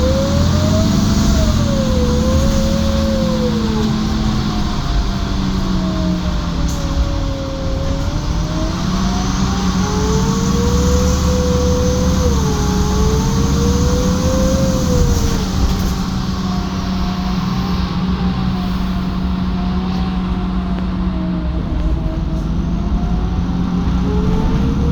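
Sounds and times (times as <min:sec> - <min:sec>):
bus engine running with whine: 0:00.0 - 0:24.9.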